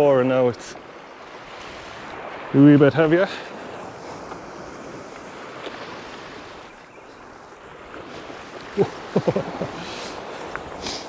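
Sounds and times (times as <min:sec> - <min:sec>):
sea waves washing over rocks: 0:00.0 - 0:11.0.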